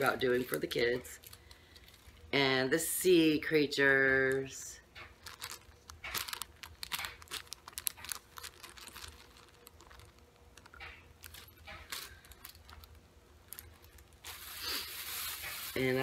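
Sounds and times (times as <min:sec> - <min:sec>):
cellophane crinkling: 0:00.0 - 0:02.9, 0:04.1 - 0:16.0.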